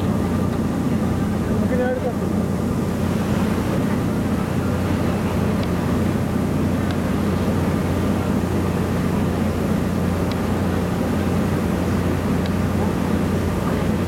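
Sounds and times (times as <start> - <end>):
boat engine droning: 0.0 - 14.0
water rushing along hull: 0.0 - 14.0.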